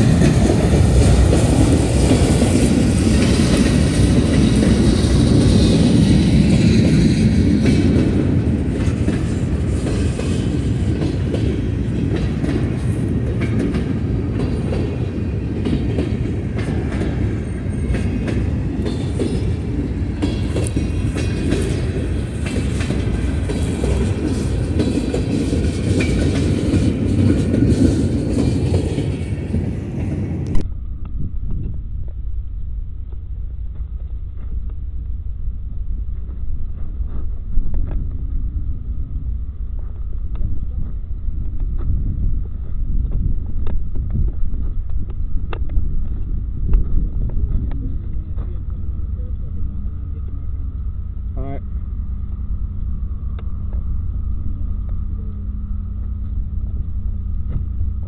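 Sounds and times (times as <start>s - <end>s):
train wheels clickety-clack: 0.0s - 30.7s, 33.1s - 50.9s, 53.3s - 58.0s
freight train rumbling: 0.0s - 58.0s.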